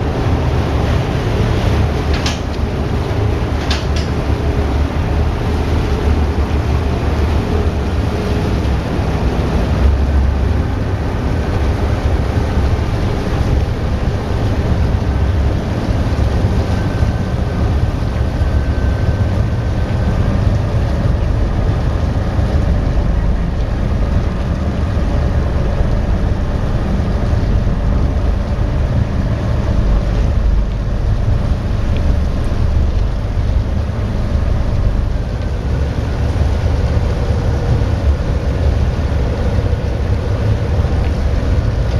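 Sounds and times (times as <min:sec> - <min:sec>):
propeller wash churning water: 0:00.0 - 0:41.9
ship engines rumbling: 0:00.0 - 0:41.9.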